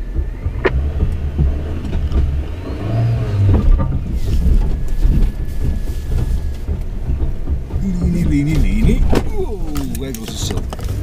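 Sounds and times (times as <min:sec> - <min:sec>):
off-road vehicle engine rumble: 0:00.0 - 0:11.0
vehicle knocks and rattles: 0:00.0 - 0:11.0.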